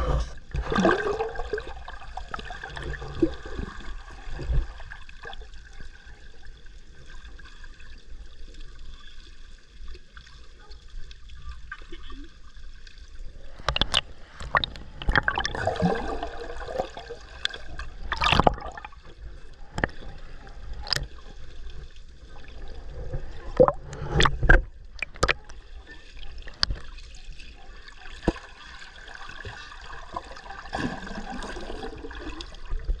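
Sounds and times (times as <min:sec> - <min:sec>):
water sloshing and gurgling: 0:00.0 - 0:33.0.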